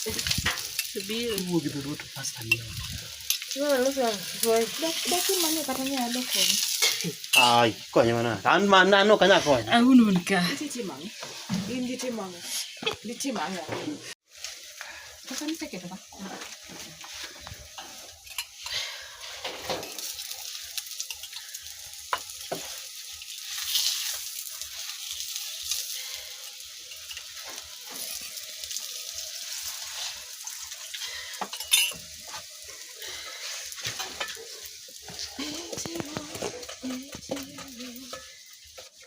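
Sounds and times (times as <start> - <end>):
food sizzling in a hot pan: 0.0 - 39.0.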